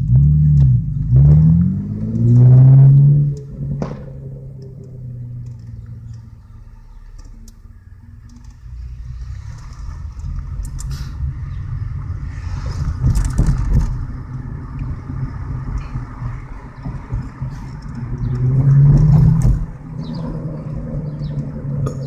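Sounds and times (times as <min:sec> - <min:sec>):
car engine revving and accelerating: 0:00.0 - 0:22.0.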